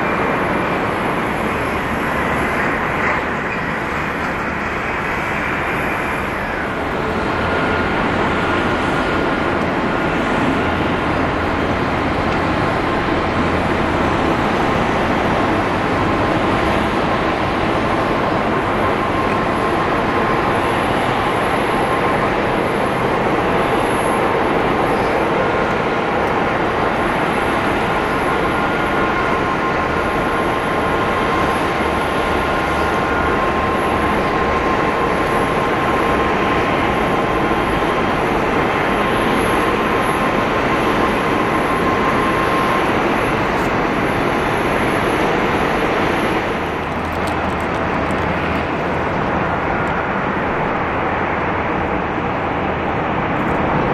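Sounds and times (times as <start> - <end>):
jet engine rush: 0.0 - 53.9
thin steady whine: 0.0 - 53.9.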